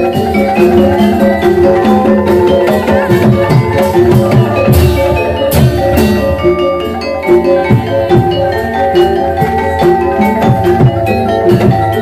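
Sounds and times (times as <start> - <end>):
hand drum strokes: 0.0 - 12.0
metallophones ringing melody: 0.0 - 12.0.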